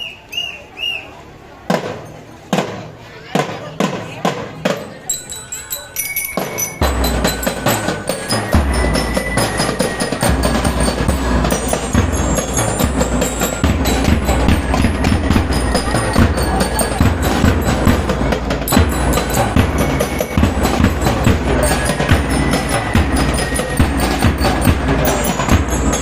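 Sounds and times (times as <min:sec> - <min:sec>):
snare and bass drums: 0:01.7 - 0:05.1, 0:06.4 - 0:26.0
bell lyres ringing: 0:04.6 - 0:26.0.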